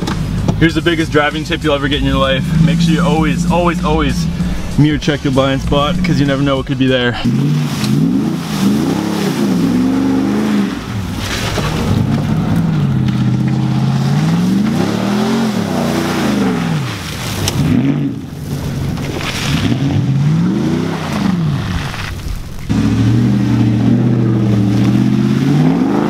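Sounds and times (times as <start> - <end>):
truck engines revving: 0.0 - 26.0
tyres churning mud: 0.0 - 26.0.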